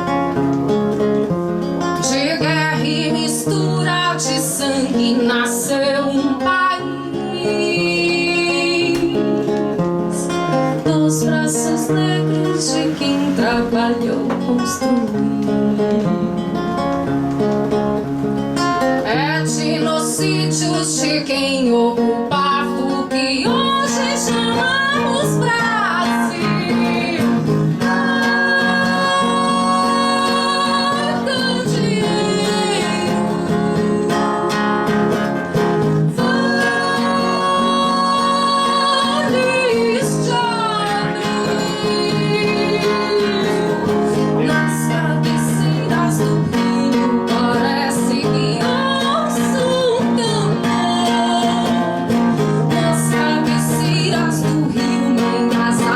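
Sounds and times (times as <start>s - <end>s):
acoustic guitar accompaniment: 0.0s - 55.9s
sliding held melody notes: 0.0s - 55.9s.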